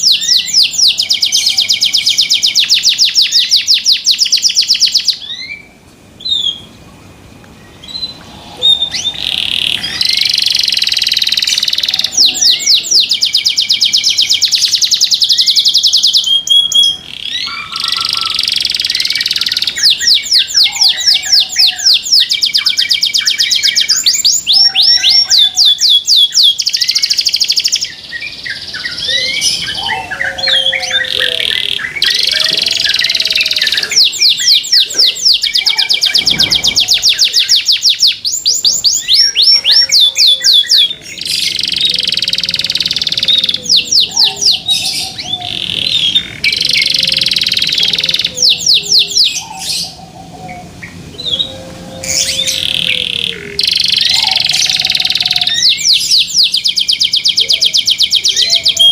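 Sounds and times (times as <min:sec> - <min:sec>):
canary singing: 0:00.0 - 0:06.8, 0:07.5 - 0:58.9.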